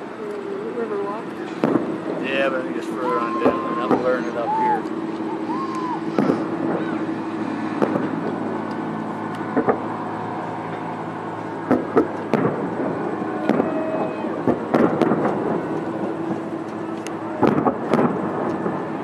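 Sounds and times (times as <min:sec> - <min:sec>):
low background hum: 0:00.0 - 0:19.0
fireworks bursting: 0:00.7 - 0:19.0.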